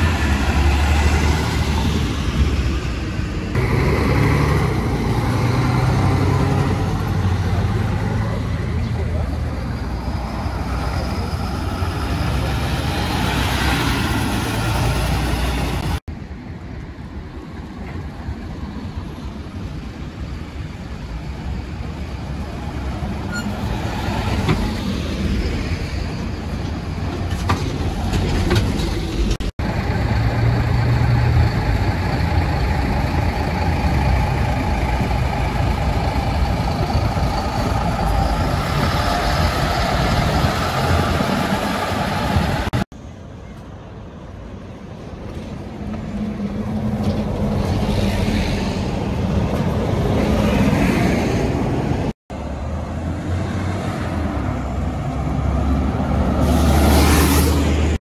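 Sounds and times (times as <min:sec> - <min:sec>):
buses driving past: 0:00.0 - 0:58.0
street traffic: 0:00.0 - 0:58.0.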